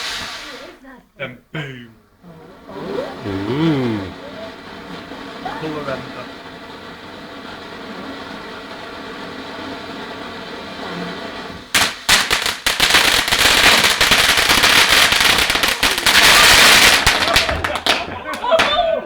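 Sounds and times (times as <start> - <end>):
firework rapid cracks: 0.0 - 0.8, 2.5 - 19.0
firework hiss: 0.0 - 1.0, 2.1 - 19.0.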